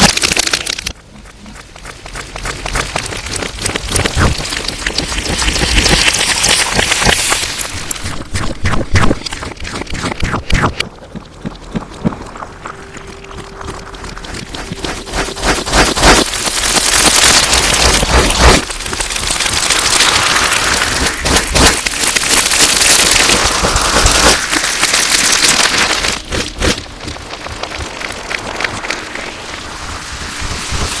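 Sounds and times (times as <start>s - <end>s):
slime crackling and popping: 0.0s - 1.0s, 1.8s - 29.8s.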